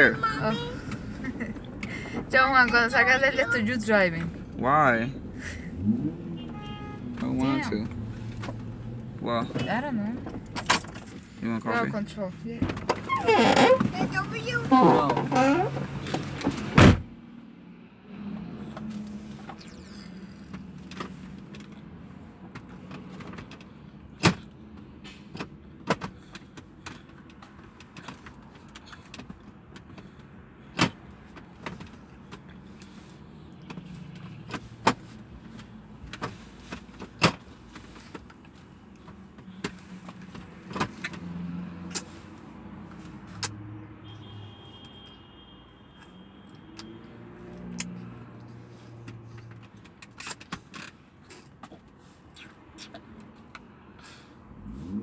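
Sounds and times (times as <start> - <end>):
car engine hum: 0.0 - 44.2, 46.4 - 55.0.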